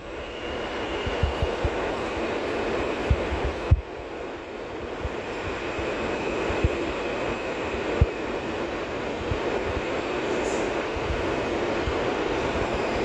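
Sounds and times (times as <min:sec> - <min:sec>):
subway wheels rumbling on rail: 0:00.0 - 0:13.0.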